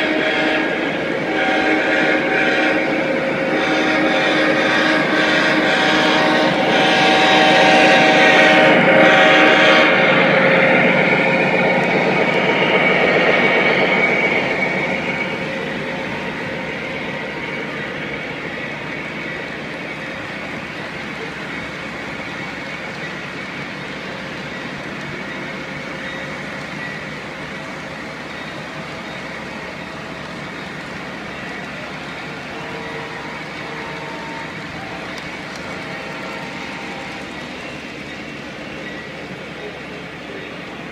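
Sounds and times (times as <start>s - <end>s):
model locomotive passing: 0.0s - 40.9s
wheels rumbling on rails: 0.0s - 40.9s.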